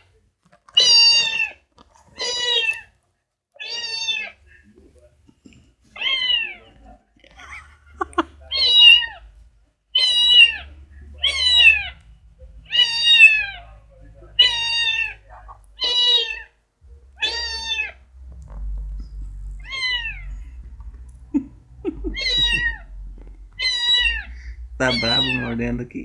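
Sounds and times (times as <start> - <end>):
cat meowing: 0.8 - 1.6, 2.2 - 2.9, 3.6 - 4.5, 6.0 - 9.4, 10.0 - 26.0.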